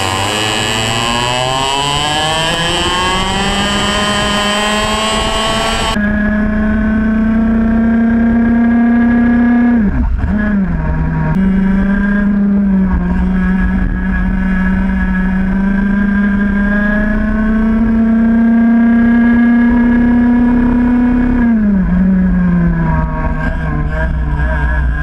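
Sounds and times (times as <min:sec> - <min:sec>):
kart engine at full throttle: 0:00.0 - 0:25.0.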